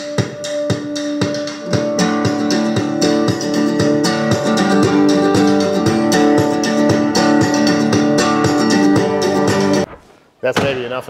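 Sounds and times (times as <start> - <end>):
guitar music through speakers: 0.0 - 9.9.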